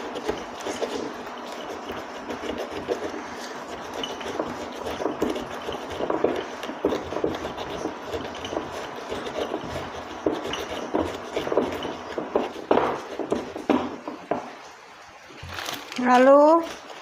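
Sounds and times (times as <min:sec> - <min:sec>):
wooden pestle knocking in mortar: 0:00.0 - 0:14.6
pestle scraping: 0:00.0 - 0:14.7, 0:16.5 - 0:17.0.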